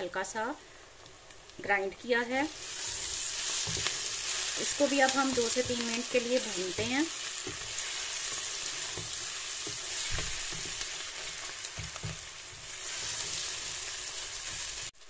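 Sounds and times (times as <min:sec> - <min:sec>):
onions sizzling in hot oil: 0:00.0 - 0:15.0
wooden spoon stirring: 0:02.5 - 0:14.8.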